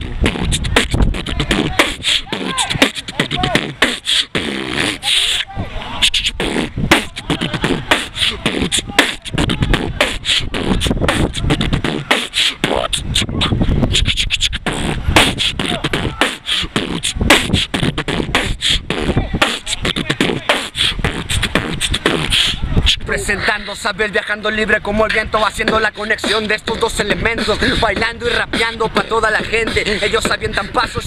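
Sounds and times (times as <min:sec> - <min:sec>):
person beatboxing: 0:00.0 - 0:31.0.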